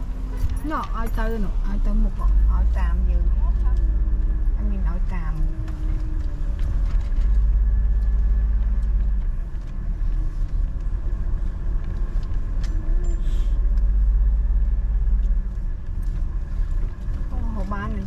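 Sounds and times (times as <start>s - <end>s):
gusty low rumble: 0.0s - 18.0s.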